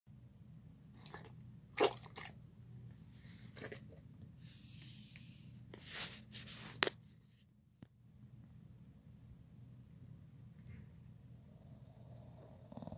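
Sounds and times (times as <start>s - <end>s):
low steady hum: 0.1s - 12.9s.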